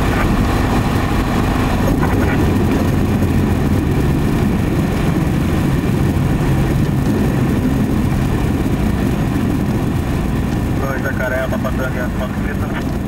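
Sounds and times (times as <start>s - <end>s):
propeller plane engine running: 0.0s - 13.0s.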